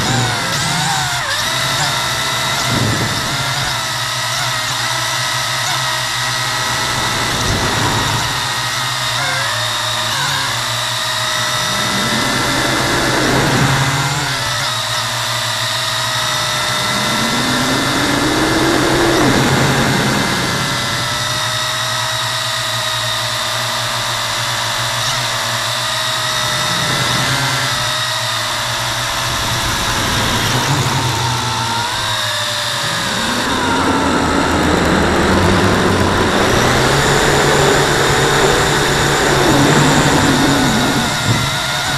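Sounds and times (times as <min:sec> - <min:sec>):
quadcopter motors whining: 0:00.0 - 0:41.9.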